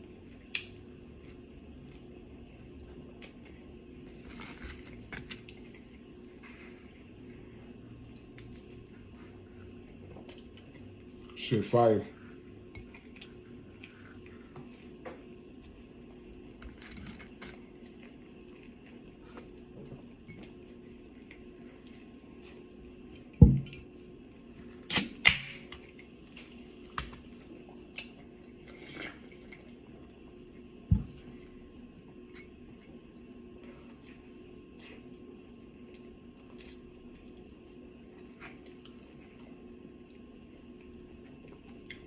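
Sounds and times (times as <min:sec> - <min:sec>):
person chewing: 0:00.0 - 0:11.4, 0:12.3 - 0:23.4, 0:25.8 - 0:42.0
steady low hum: 0:00.0 - 0:42.0.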